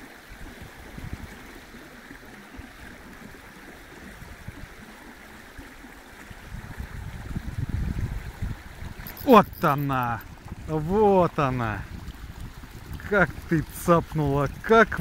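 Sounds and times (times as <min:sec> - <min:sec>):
flowing stream water: 0:00.0 - 0:15.0.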